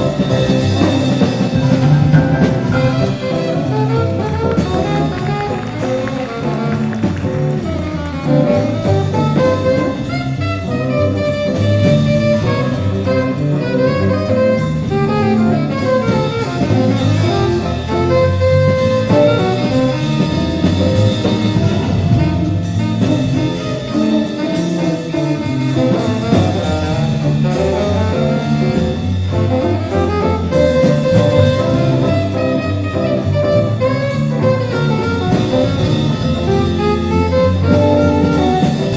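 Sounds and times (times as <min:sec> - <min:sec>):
bass line: 0:00.0 - 0:38.9
drum kit: 0:00.0 - 0:38.9
horns: 0:00.0 - 0:38.9.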